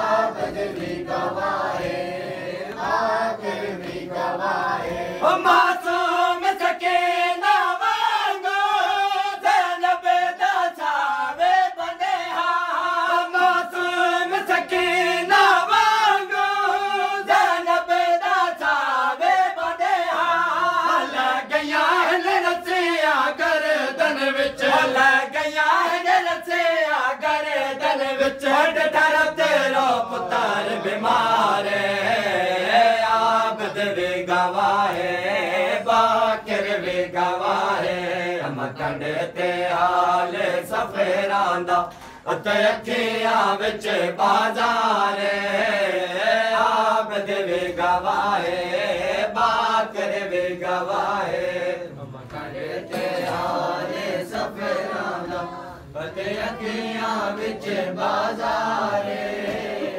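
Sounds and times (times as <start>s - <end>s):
group chanting: 0.0s - 59.9s.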